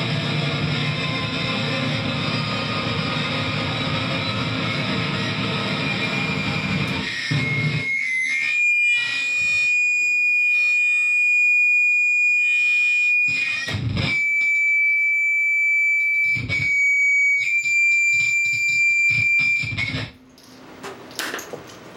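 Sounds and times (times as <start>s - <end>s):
high guitar feedback tone: 0.0s - 20.2s
distorted guitar noise: 0.0s - 20.3s.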